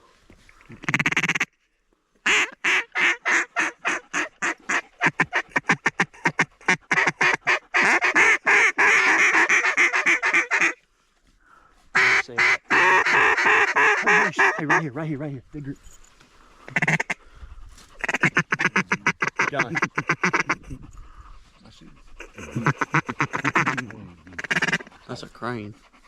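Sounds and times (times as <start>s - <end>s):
waterfowl honking and quacking: 0.5s - 1.6s, 2.2s - 10.8s, 12.0s - 15.0s, 16.4s - 26.0s.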